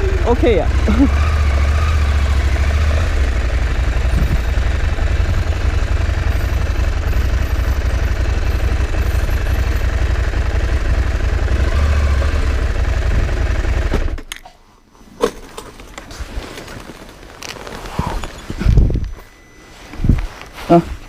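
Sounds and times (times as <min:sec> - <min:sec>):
motorcycle engine rumbling: 0:00.0 - 0:14.4, 0:15.4 - 0:20.8.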